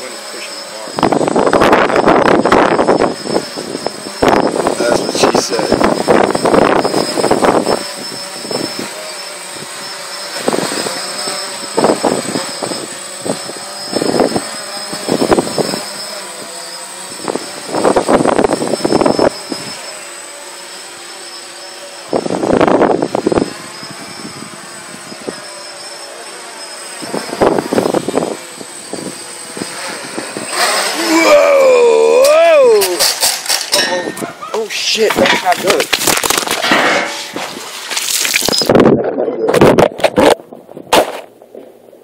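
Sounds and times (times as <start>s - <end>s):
drone propellers buzzing: 0.0s - 40.4s.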